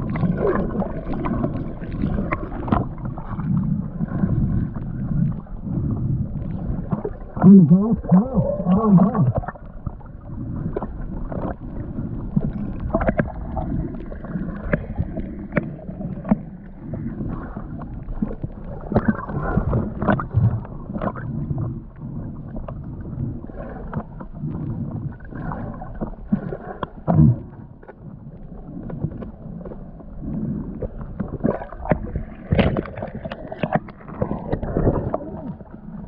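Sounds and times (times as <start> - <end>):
muffled water sloshing underwater: 0.0 - 36.0.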